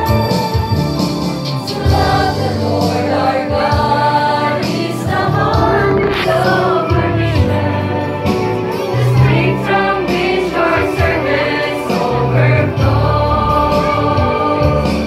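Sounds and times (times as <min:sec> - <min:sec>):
choir singing a church song: 0:00.0 - 0:15.0.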